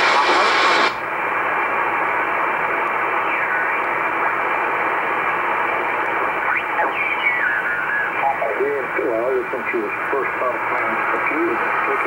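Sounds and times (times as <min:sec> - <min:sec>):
shortwave radio hiss: 0:00.0 - 0:12.0.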